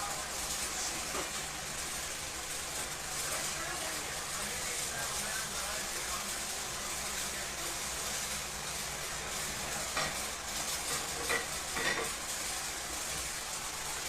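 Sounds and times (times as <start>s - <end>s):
steady hissing noise: 0.0s - 14.0s.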